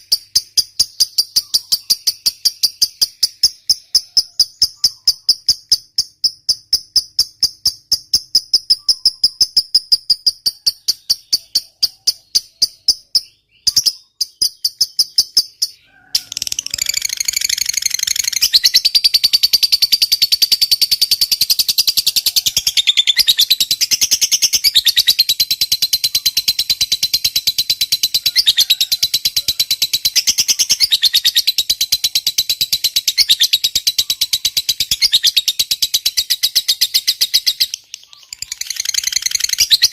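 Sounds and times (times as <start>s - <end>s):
lovebird chirping and chattering: 0.0s - 39.9s.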